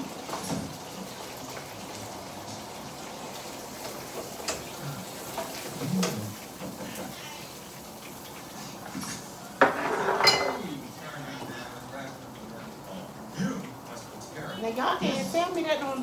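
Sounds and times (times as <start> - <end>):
chicken sizzling in deep fryer: 0.0 - 16.0.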